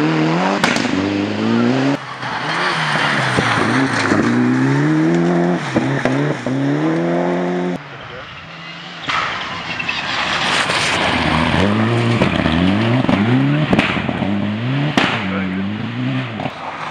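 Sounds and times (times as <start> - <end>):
gravel and tyre noise: 0.0 - 16.9
rally car engine revving: 0.0 - 16.9.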